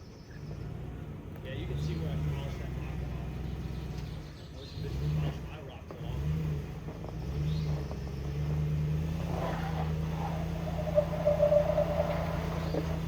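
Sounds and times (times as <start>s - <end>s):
engine running at low revs: 0.3s - 13.0s.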